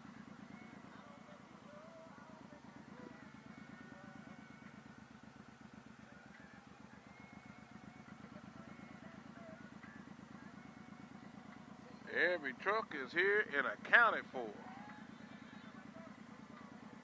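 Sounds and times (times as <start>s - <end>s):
motorcycle engine pulsing: 0.0s - 17.0s.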